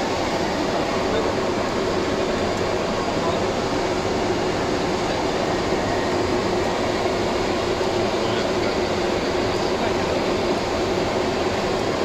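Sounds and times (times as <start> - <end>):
aircraft engines roaring: 0.0 - 12.0.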